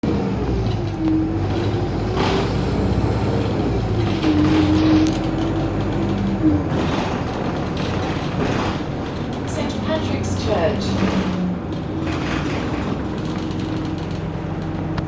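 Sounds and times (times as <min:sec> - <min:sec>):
bus engine whine: 0:00.0 - 0:15.0.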